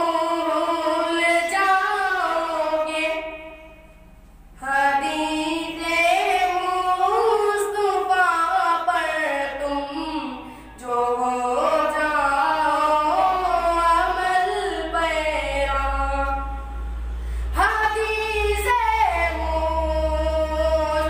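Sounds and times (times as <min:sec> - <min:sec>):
boy singing unaccompanied: 0:00.0 - 0:03.6, 0:04.6 - 0:16.6, 0:17.5 - 0:21.0.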